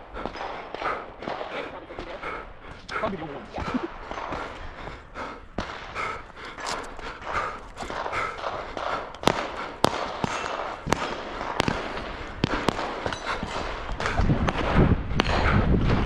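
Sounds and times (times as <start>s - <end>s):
gunshots: 0.0s - 16.0s.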